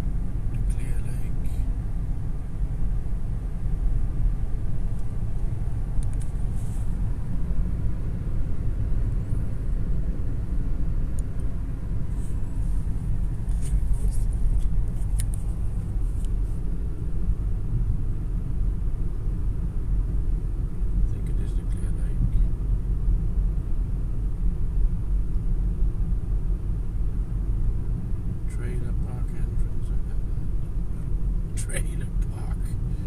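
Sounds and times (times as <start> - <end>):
car cabin road rumble: 0.0 - 33.0.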